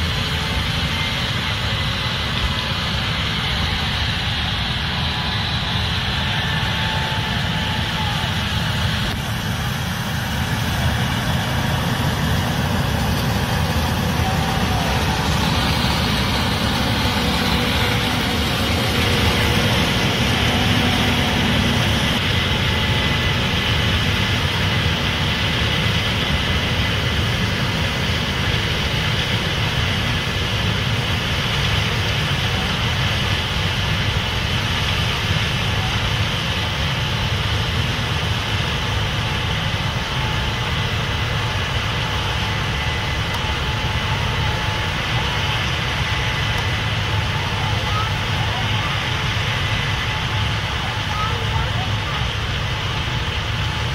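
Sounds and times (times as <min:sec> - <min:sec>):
combine harvester engine droning: 0:00.0 - 0:53.9.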